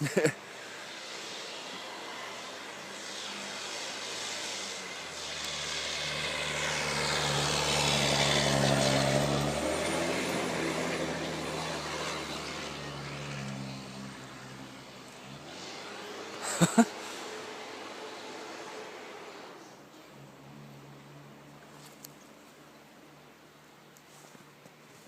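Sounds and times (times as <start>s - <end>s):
truck engine working hard: 0.0s - 21.4s.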